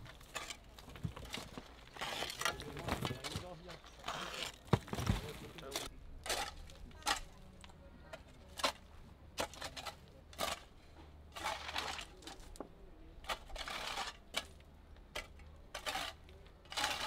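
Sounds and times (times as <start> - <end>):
shovel scraping: 0.1 - 7.3, 8.5 - 10.7, 11.3 - 12.5, 13.2 - 14.6, 15.2 - 17.0.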